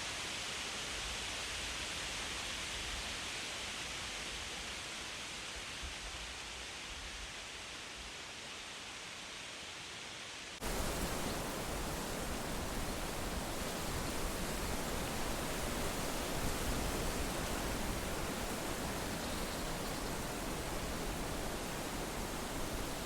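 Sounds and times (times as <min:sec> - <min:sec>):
wind through leaves: 0:00.0 - 0:23.0.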